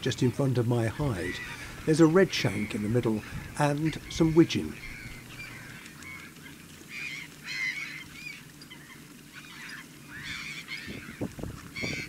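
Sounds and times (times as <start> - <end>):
waterfowl nasal calls: 0.8 - 12.0.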